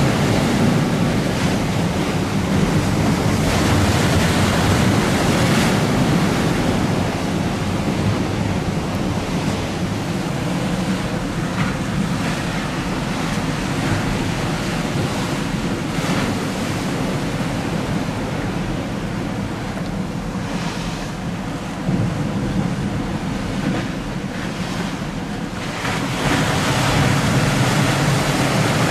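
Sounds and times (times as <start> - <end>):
choppy river waves: 0.0 - 28.9
strong wind buffeting microphone: 0.0 - 28.9.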